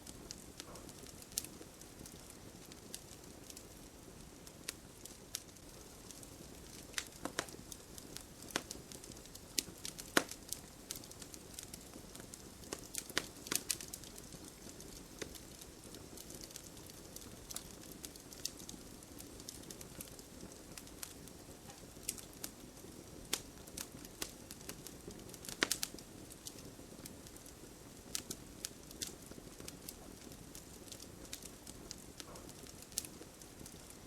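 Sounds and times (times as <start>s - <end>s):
burning wood popping and crackling: 0.0s - 34.0s
campfire hissing: 0.0s - 34.0s.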